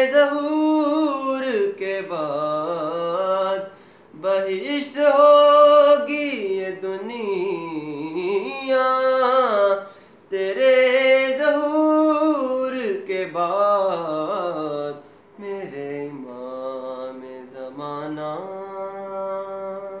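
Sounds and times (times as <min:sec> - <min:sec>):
man singing solo: 0:00.0 - 0:20.0.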